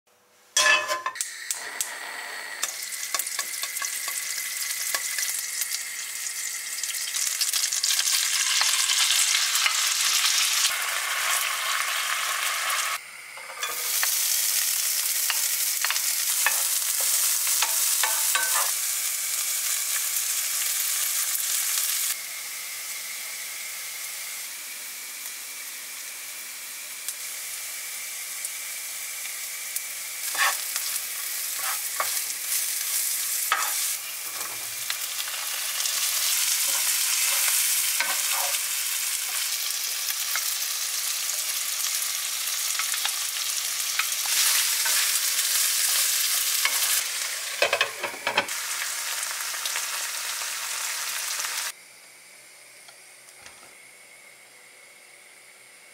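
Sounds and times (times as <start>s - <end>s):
food sizzling in a frying pan: 0.6s - 51.8s.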